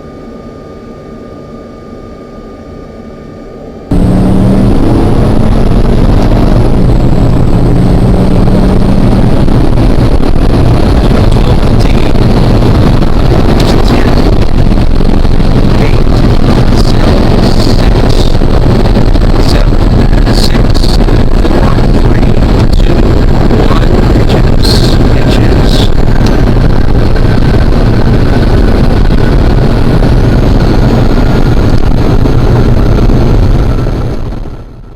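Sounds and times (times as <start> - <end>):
thin high whine: 0.0 - 34.9
engine running loudly: 3.6 - 34.9.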